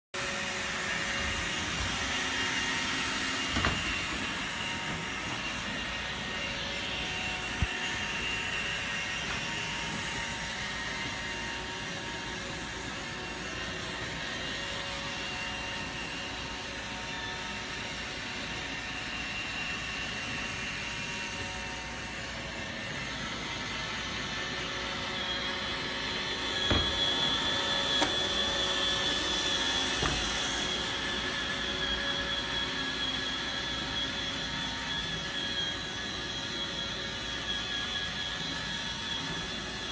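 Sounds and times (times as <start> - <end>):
robotic vacuum motor whirring: 0.2 - 39.9.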